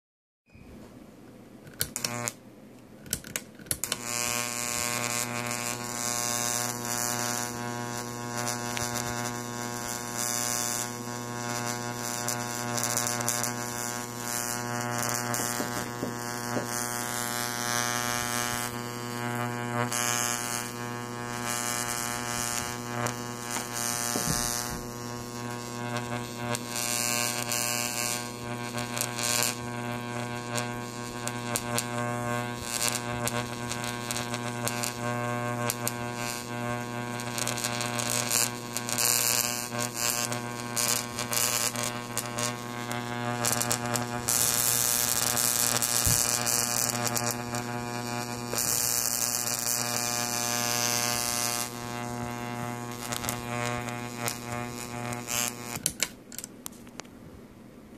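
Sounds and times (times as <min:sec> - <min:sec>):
electric arc buzzing and crackling: 0:01.6 - 0:02.4, 0:03.0 - 0:57.0.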